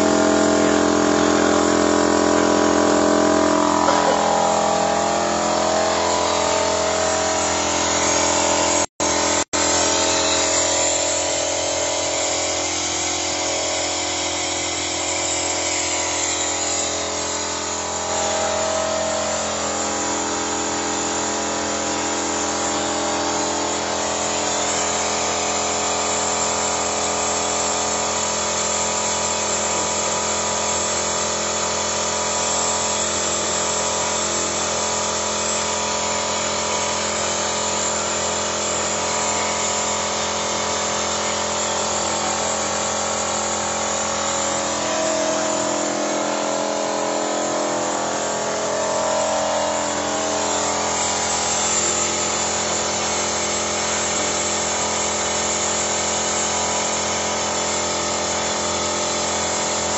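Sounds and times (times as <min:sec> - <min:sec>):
machine motor hum: 0:00.0 - 0:30.0, 0:31.8 - 0:54.8.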